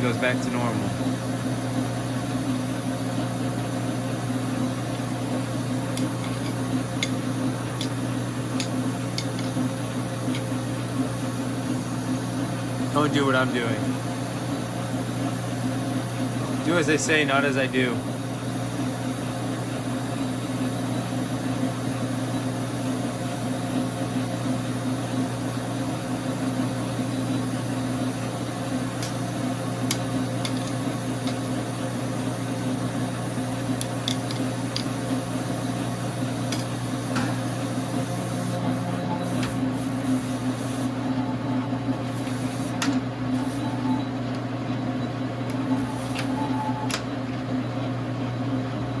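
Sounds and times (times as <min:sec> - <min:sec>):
lathe motor humming: 0:00.0 - 0:48.3.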